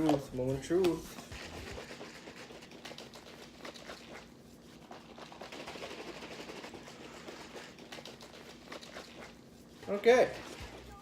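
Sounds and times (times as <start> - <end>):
shaker bottle rattling: 0.0 - 10.7.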